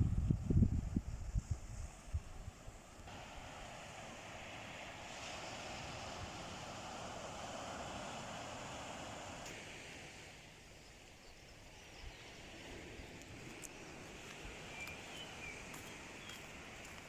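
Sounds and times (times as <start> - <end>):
low hiss: 0.0 - 17.0
sea waves washing: 1.3 - 11.2, 11.8 - 17.0.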